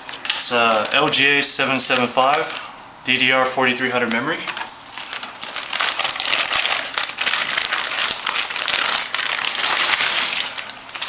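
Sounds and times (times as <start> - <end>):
packaging crinkling: 0.0 - 2.7, 4.0 - 11.0.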